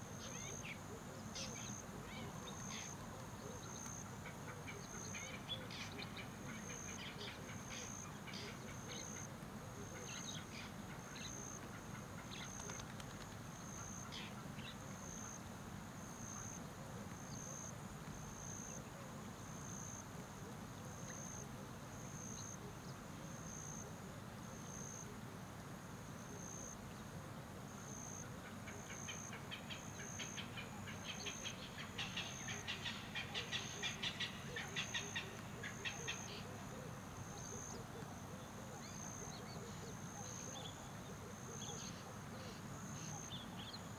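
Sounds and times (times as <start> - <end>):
cricket chirping: 0.0 - 43.9.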